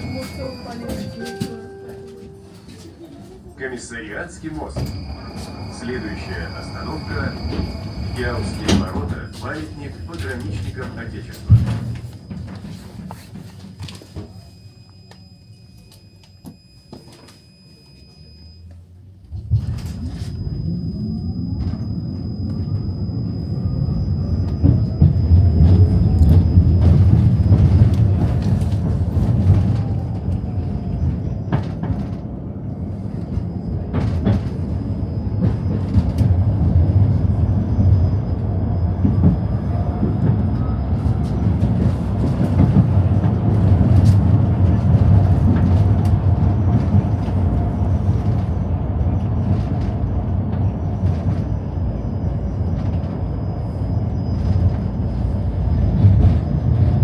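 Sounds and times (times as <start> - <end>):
tram rumbling on rails: 0.0 - 57.0.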